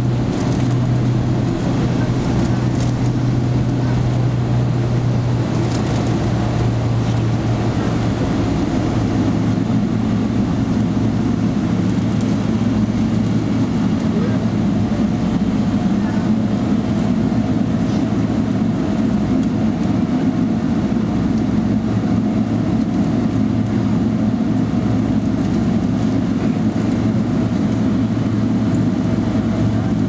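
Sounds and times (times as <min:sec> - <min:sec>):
airplane cabin engine drone: 0:00.0 - 0:30.0.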